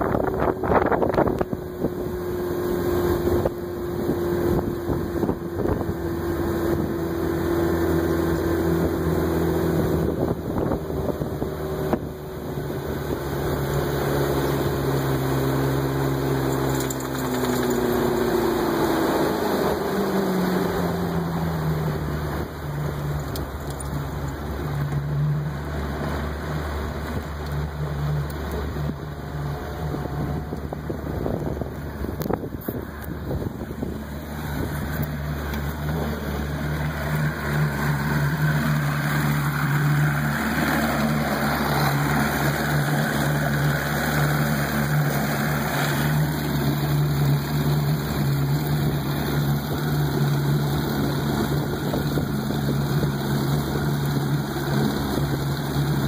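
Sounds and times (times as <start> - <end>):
wind buffeting microphone: 0.0 - 16.4, 26.9 - 56.0
motorboat engine running: 0.0 - 56.0
water rushing past hull: 0.0 - 56.0.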